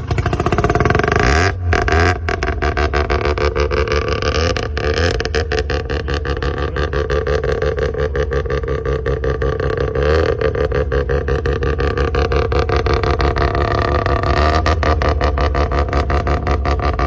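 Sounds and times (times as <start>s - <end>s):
rotary engine idling: 0.0s - 17.0s.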